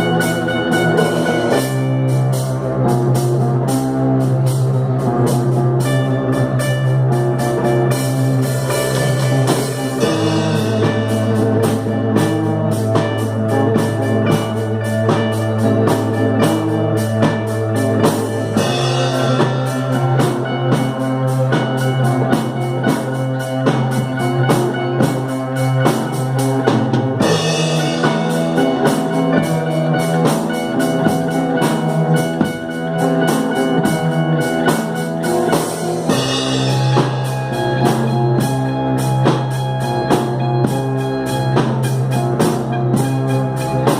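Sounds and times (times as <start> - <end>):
drum kit beat: 0.0 - 43.9
electric guitar: 0.0 - 43.9
psychedelic rock band: 0.0 - 43.9.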